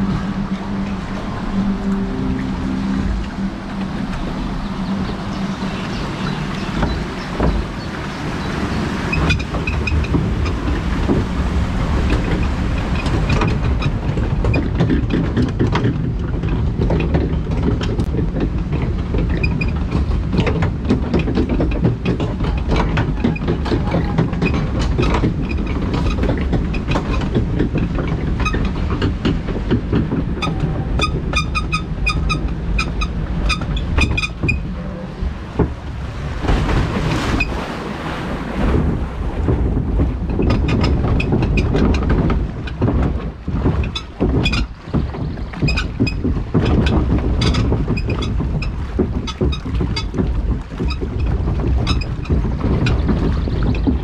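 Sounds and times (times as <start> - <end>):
ride rumbling and clattering: 0.0 - 54.0.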